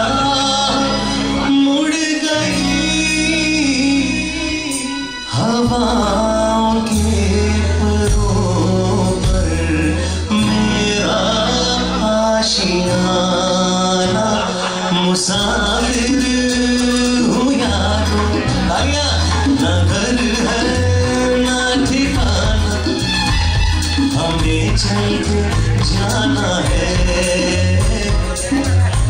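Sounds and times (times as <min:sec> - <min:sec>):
bass line: 0:00.0 - 0:29.0
drum kit: 0:00.0 - 0:29.0
electric guitar: 0:00.0 - 0:29.0
keyboard: 0:00.0 - 0:29.0
man singing into microphone: 0:00.0 - 0:29.0.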